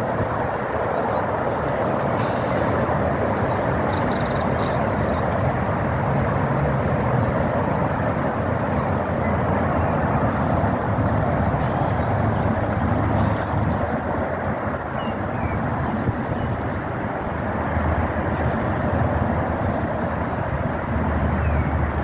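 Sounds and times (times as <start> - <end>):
rushing noise: 0.0 - 22.0.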